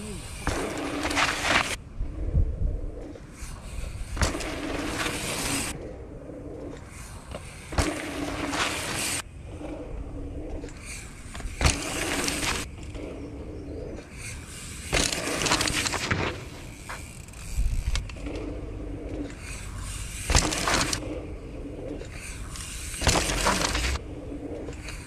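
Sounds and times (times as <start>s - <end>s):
bike tyres skidding on dirt: 0.0s - 1.8s, 3.1s - 5.8s, 6.9s - 9.6s, 10.6s - 21.3s, 22.0s - 25.0s.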